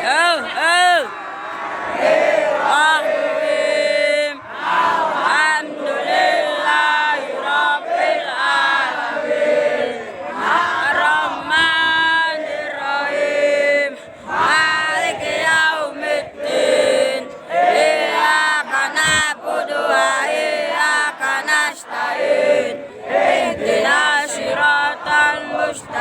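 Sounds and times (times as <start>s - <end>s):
crowd singing and chanting: 0.0s - 26.0s.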